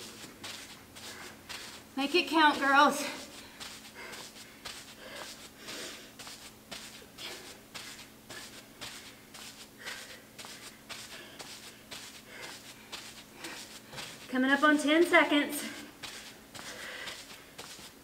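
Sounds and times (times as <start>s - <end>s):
sneakers scuffing on turf: 0.0s - 14.8s, 15.7s - 18.0s
woman breathing hard: 0.5s - 1.9s, 3.0s - 14.3s, 15.6s - 17.9s.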